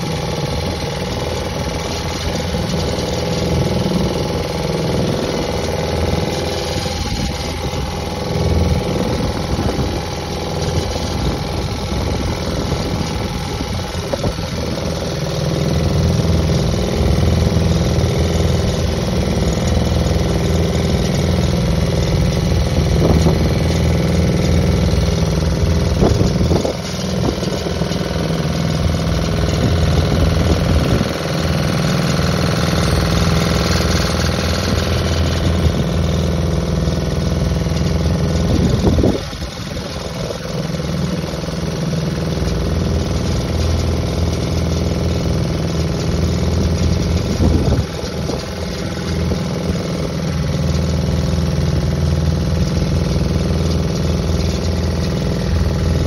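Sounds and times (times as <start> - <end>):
boat engine drone: 0.0 - 56.0
water splashing along hull: 0.0 - 56.0.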